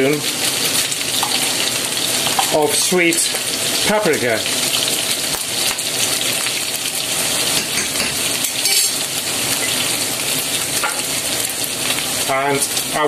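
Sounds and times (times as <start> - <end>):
pork sizzling in a frying pan: 0.0 - 13.0.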